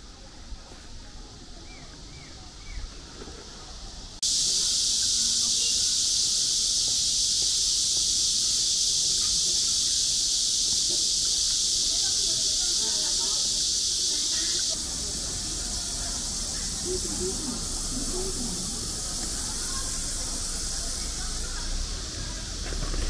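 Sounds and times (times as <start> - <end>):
loud high-pitched hiss: 4.0 - 23.0.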